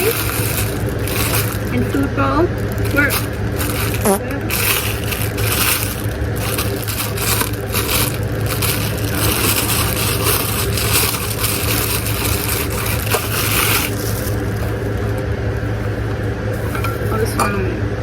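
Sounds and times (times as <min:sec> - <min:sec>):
plastic packaging crinkling: 0:00.0 - 0:17.2
steady low hum: 0:00.0 - 0:18.0.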